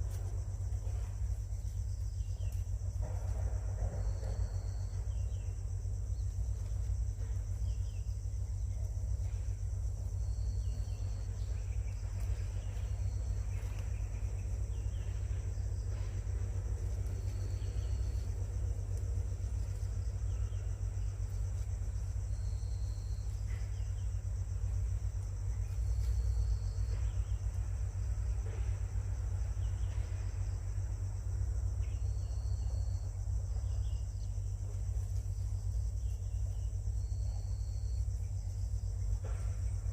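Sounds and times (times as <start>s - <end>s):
insect chorus: 0.0s - 39.9s
low rumble: 0.0s - 39.9s.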